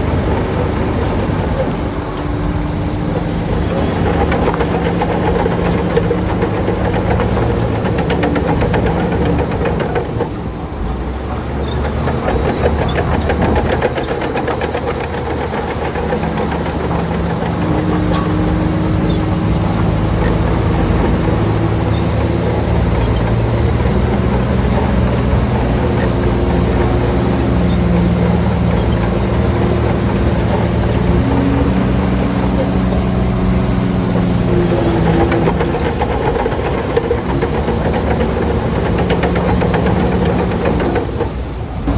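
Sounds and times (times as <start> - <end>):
heavy diesel engine under load: 0.0 - 41.9.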